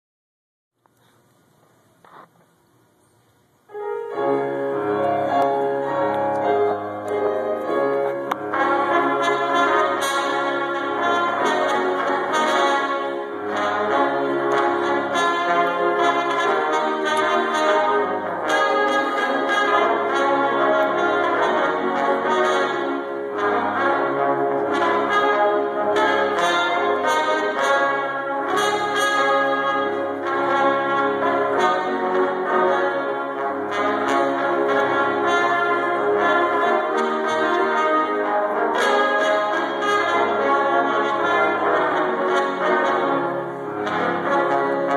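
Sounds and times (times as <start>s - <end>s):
trumpets playing held notes: 3.7s - 44.9s.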